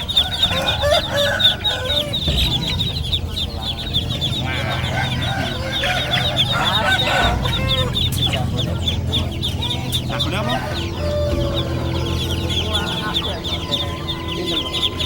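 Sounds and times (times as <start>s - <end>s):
birds and chicks chirping: 0.0s - 15.0s
chicken clucking: 0.0s - 15.0s.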